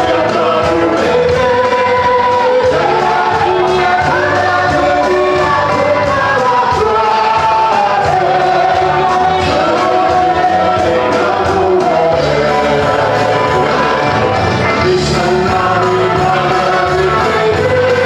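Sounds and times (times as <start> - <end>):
group singing gospel song: 0.0 - 18.0
instrumental backing: 0.0 - 18.0.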